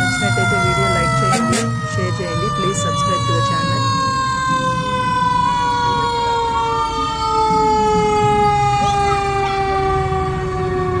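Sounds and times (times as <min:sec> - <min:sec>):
fire engine siren winding down: 0:00.0 - 0:11.0
fire truck engine rumble: 0:00.0 - 0:11.0.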